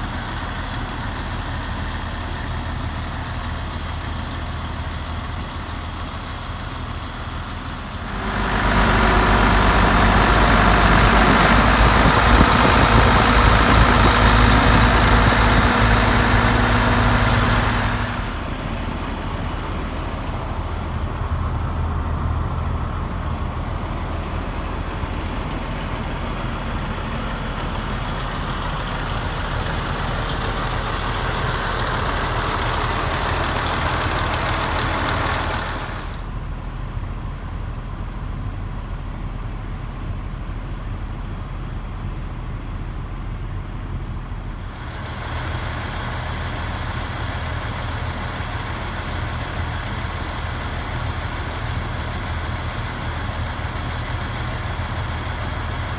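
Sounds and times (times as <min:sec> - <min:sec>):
truck diesel engine idling: 0:00.0 - 0:55.9.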